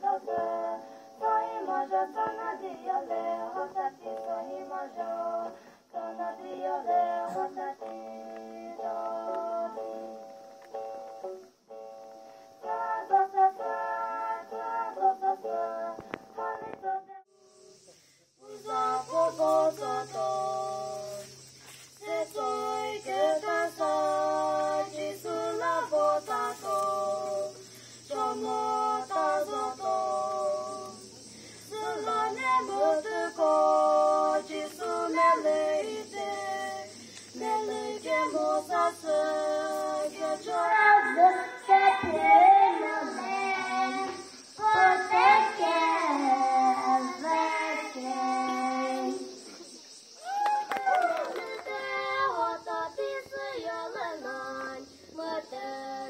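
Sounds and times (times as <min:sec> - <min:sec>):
children singing a duet: 0:00.0 - 0:11.4, 0:12.5 - 0:17.7, 0:18.4 - 0:49.8, 0:51.2 - 0:56.0.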